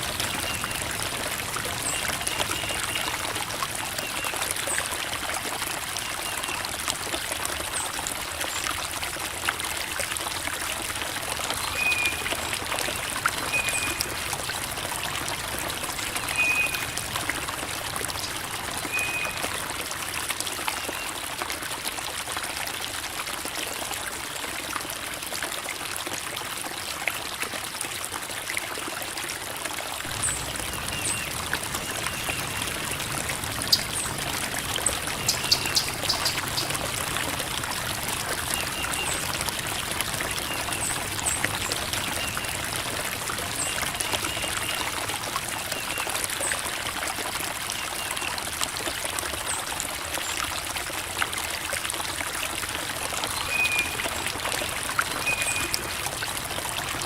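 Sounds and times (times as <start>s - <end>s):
creek babbling over rocks: 0.0s - 57.0s.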